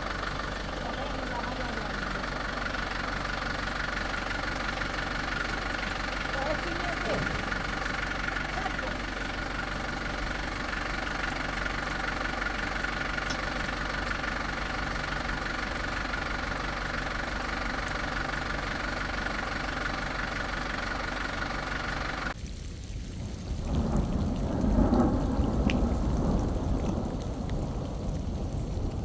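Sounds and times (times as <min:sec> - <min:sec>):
engine idling: 0:00.0 - 0:22.4, 0:23.7 - 0:29.0.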